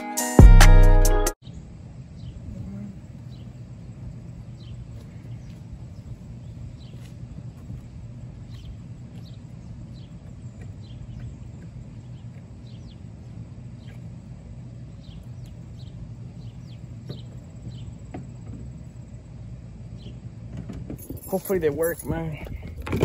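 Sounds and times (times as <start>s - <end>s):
steady low hum: 1.4s - 23.0s.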